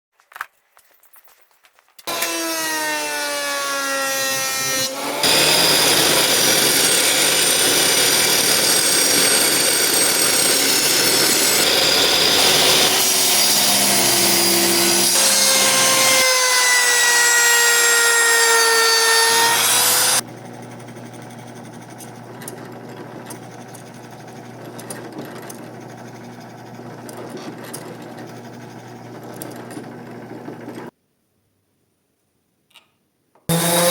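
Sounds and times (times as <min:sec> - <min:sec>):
power tool motor under load: 0:02.0 - 0:30.9
wood cutting or sanding: 0:02.1 - 0:30.9, 0:33.5 - 0:33.9.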